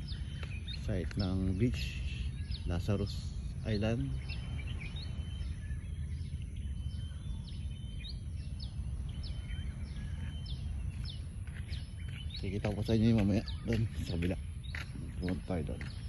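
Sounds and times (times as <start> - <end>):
birds chirping: 0.0 - 16.0
low outdoor rumble: 0.0 - 16.0.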